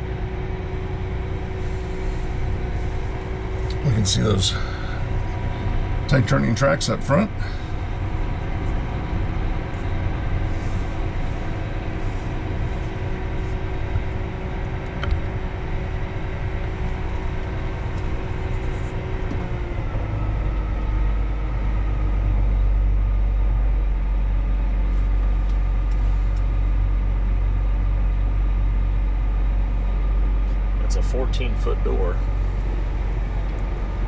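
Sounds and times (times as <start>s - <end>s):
deep low rumble: 0.0s - 34.0s
tractor diesel engine running: 0.0s - 34.0s.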